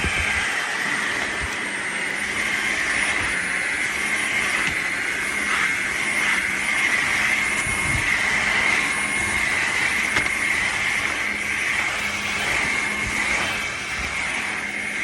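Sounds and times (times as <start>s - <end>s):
vacuum mop motor whining: 0.0s - 15.0s.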